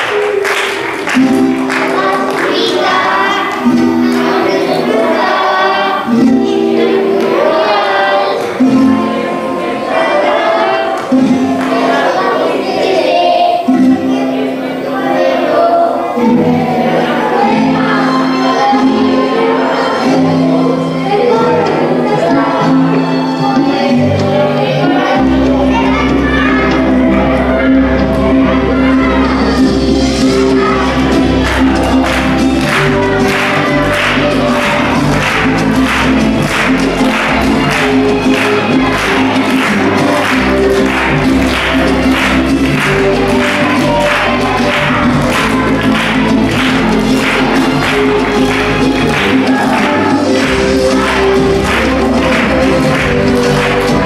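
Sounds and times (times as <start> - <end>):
children singing together: 0.0 - 54.0.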